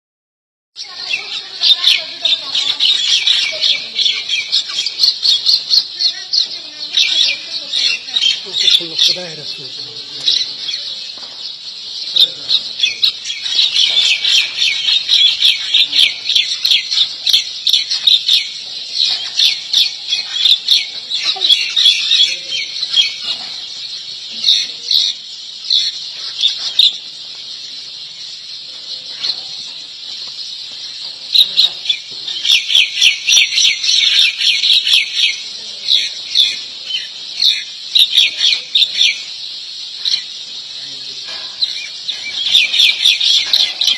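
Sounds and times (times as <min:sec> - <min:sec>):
small birds chirping: 0:00.8 - 0:43.9.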